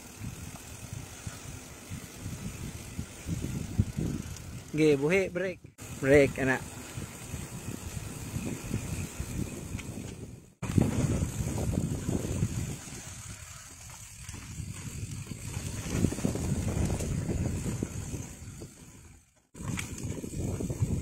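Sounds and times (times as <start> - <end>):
wind buffeting microphone: 0.0 - 4.8, 5.8 - 21.0
bike tyre and rattle noise: 0.0 - 21.0.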